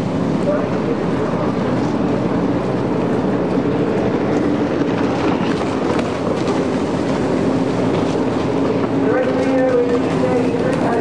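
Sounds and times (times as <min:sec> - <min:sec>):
jet ski engines droning: 0:00.0 - 0:11.0.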